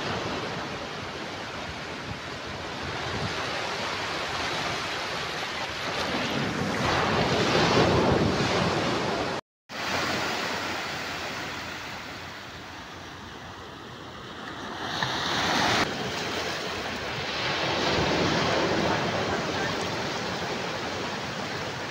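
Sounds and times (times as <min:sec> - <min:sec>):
waves breaking on shore: 0:00.0 - 0:21.9.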